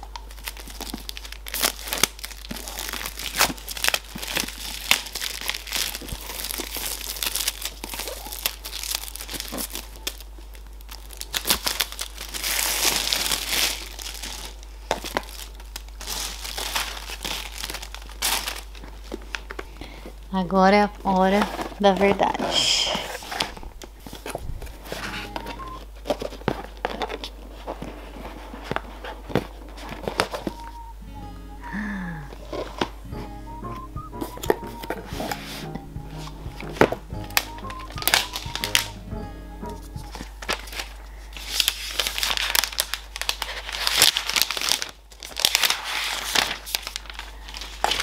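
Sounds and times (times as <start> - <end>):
plastic wrap crinkling: 0.0 - 20.3, 21.2 - 30.8, 32.4 - 39.0, 39.6 - 48.0.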